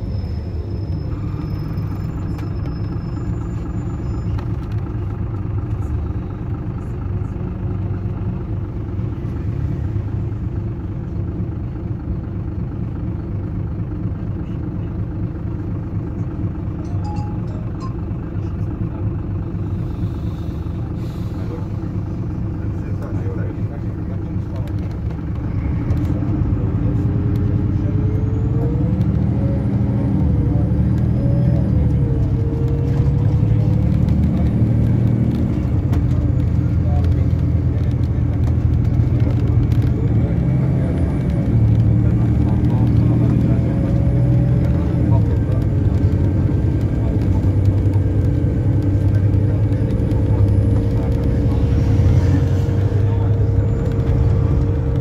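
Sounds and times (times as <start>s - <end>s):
vehicle rumble from on board: 0.0s - 55.0s.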